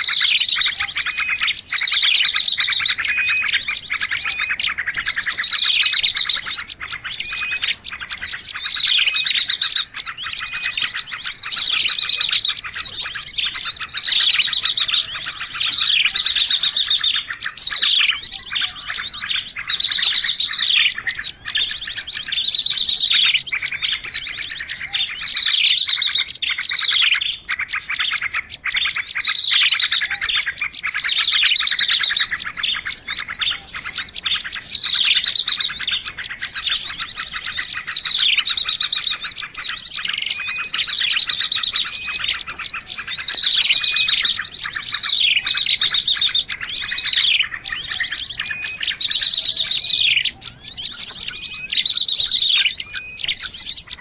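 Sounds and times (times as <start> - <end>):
rattling bird trill: 0.0 - 54.0
songbirds chirping: 0.0 - 54.0.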